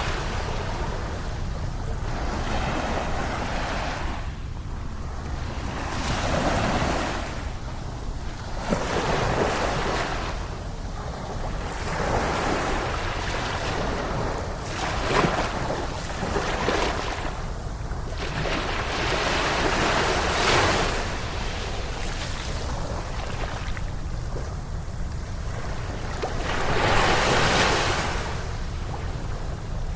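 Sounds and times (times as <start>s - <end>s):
sea waves breaking on beach: 0.0s - 29.9s
wind rumble on microphone: 0.0s - 29.9s.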